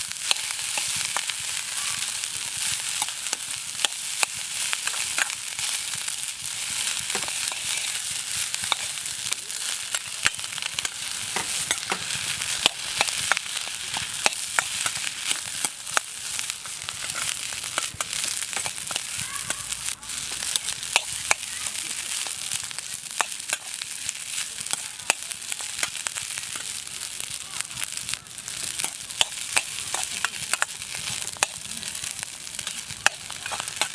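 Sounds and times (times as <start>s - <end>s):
meat sizzling on a grill: 0.0s - 33.9s
wood fire popping and crackling: 0.0s - 33.9s.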